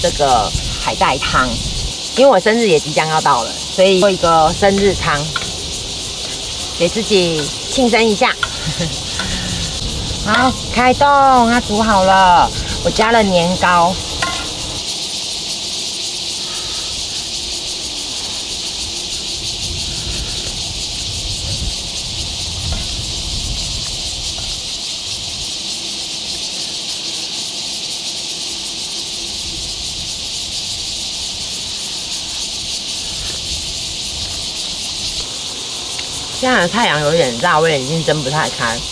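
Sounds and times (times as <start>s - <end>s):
insect chorus hissing: 0.0s - 38.9s.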